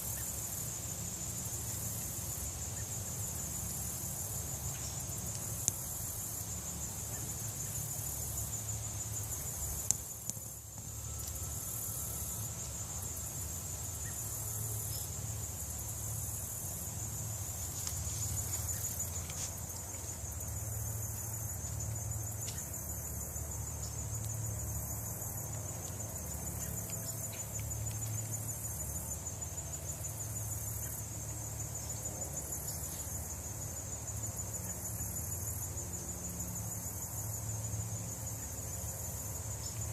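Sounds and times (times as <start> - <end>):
crickets trilling: 0.0 - 39.9
pulsing high insect call: 0.0 - 39.9.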